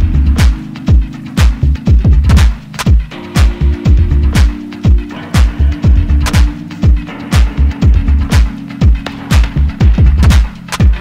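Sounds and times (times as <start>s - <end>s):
bass line: 0.0s - 11.0s
deep kick drum: 0.0s - 11.0s.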